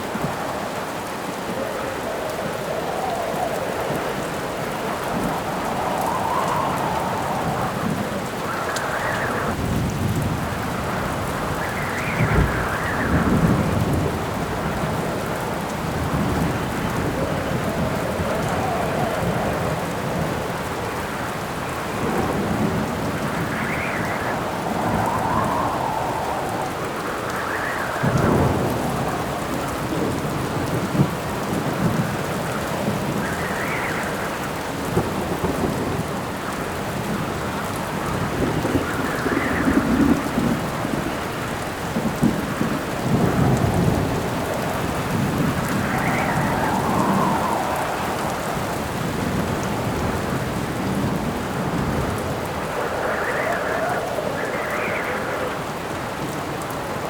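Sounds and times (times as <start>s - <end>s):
steady rain: 0.0s - 57.0s
thunder rumbling: 0.0s - 57.0s
wind howling in gusts: 0.0s - 57.0s.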